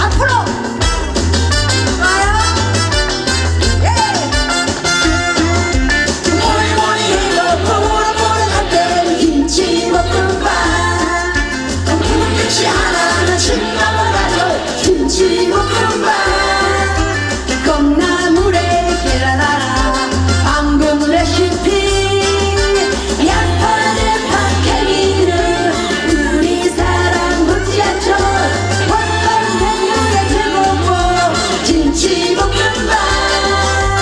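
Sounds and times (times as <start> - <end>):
amplified band with bass beat: 0.0 - 34.0
woman singing into microphone: 6.2 - 34.0.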